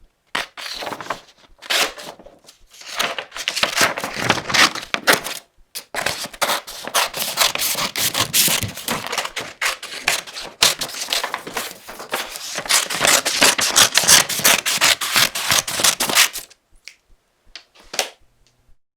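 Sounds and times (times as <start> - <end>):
paper rustling: 0.4 - 16.5
scissors snipping paper: 0.4 - 16.5.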